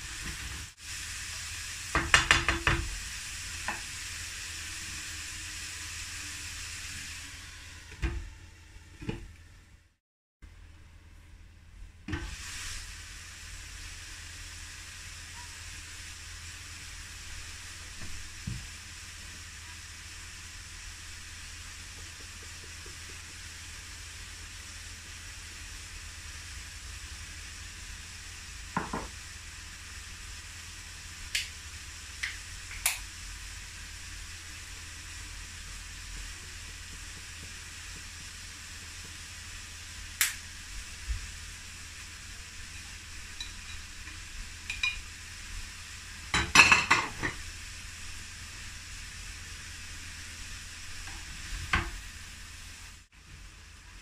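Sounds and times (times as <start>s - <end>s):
vegetables sizzling in a frying pan: 0.0s - 8.4s, 12.1s - 54.0s.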